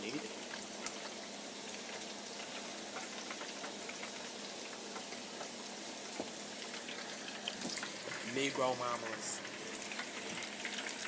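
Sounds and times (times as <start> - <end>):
chicken deep-frying in grease: 0.0 - 11.0.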